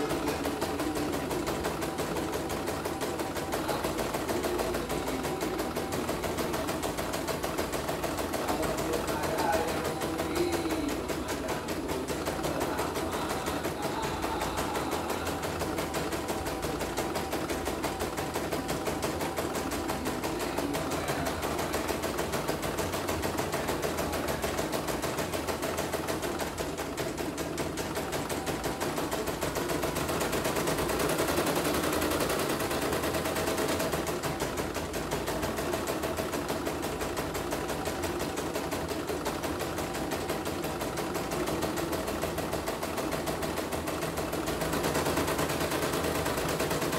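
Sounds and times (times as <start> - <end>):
embroidery machine needle clatter: 0.0 - 46.9.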